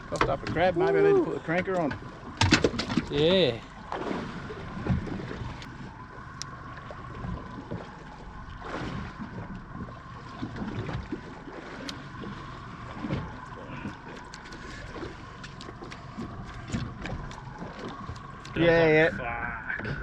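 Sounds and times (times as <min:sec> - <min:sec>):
faint steady hum: 0:00.0 - 0:20.0
water lapping against hull: 0:00.0 - 0:20.0.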